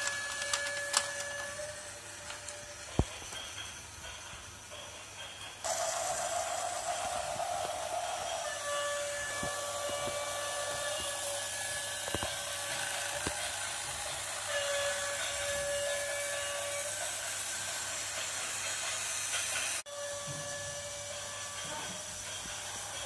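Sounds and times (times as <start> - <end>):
toy train motor whining: 0.0 - 23.0.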